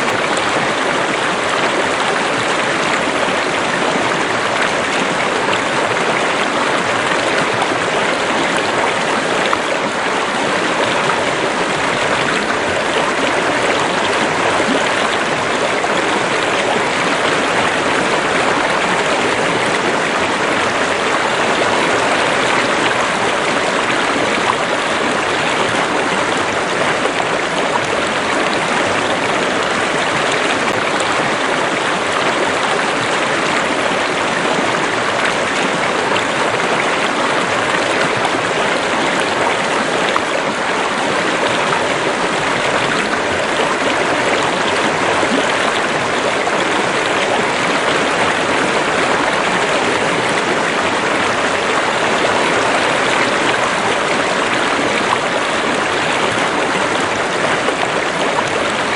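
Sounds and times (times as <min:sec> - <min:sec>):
river water rushing: 0:00.0 - 0:58.9.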